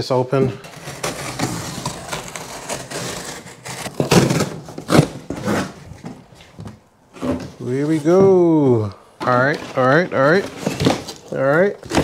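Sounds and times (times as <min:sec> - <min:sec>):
cardboard scraping and tearing: 0:00.3 - 0:08.0, 0:09.3 - 0:12.0.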